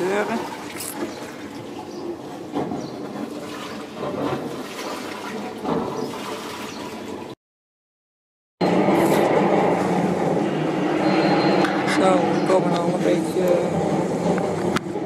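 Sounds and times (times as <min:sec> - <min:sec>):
water churning and rushing: 0:00.0 - 0:07.4, 0:08.7 - 0:15.0.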